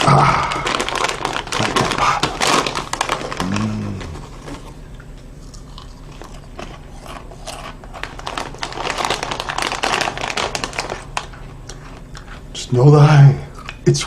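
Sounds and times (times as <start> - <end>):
crunchy snacks being chewed: 0.0 - 12.6, 13.5 - 13.9.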